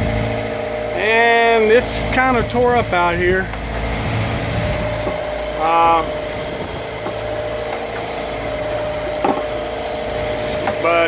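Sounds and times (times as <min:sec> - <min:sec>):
boat engine running: 0:00.0 - 0:11.0
wind and water rushing: 0:00.0 - 0:11.0.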